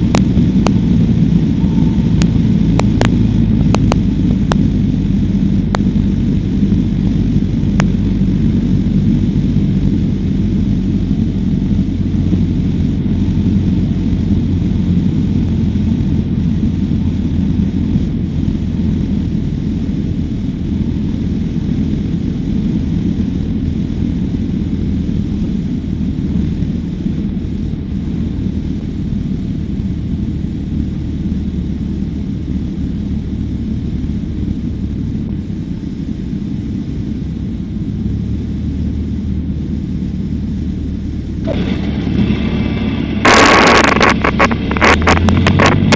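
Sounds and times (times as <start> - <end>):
aircraft engine and propeller droning: 0.0 - 45.9.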